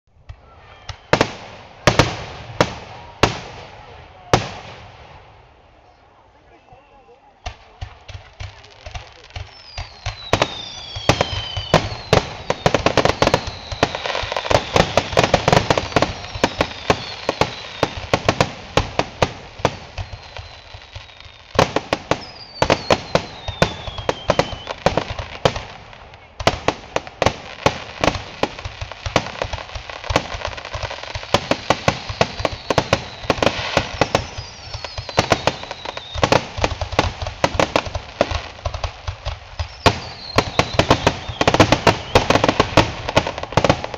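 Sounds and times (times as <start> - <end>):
fireworks bangs and crackling: 0.2 - 6.0, 7.4 - 43.9
whistling firework shells: 0.3 - 3.6, 6.5 - 25.6, 27.8 - 38.5, 39.4 - 43.9.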